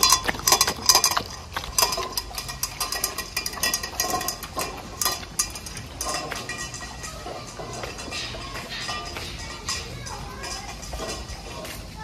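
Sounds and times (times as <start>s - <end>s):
dogs eating from metal bowls: 0.0s - 12.0s.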